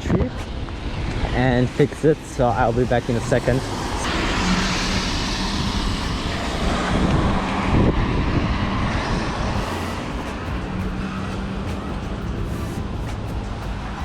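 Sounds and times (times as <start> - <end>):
wind noise on microphone: 0.0 - 14.0
tyres hissing on wet road: 0.5 - 14.0.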